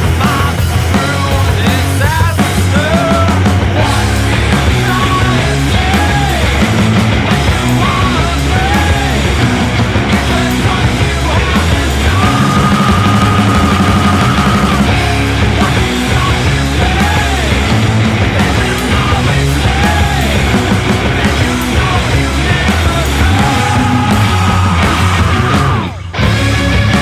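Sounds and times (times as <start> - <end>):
rock music with singing: 0.0 - 27.0.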